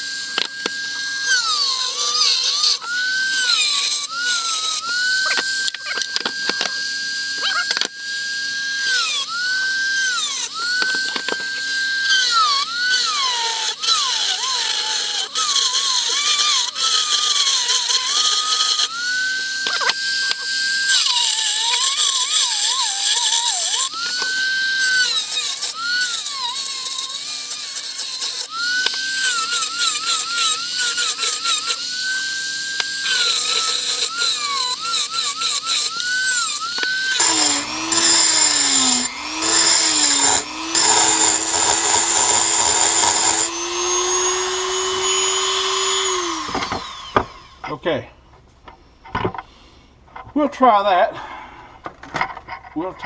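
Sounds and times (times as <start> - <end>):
rotary tool whining: 0.0 - 47.9.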